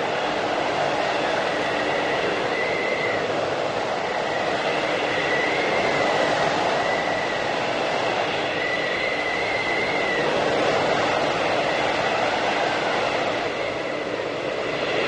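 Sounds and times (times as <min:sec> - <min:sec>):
blizzard wind blowing: 0:00.0 - 0:15.0
thin high wind whistle: 0:00.0 - 0:15.0.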